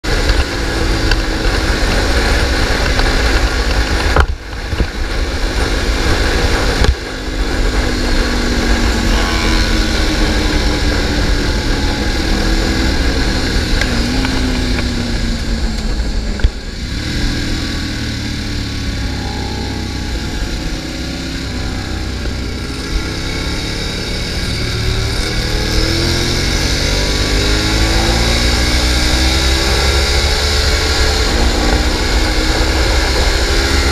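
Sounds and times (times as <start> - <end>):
heavy wind noise: 0.0 - 33.9
motorcycle engine revving: 0.0 - 33.9.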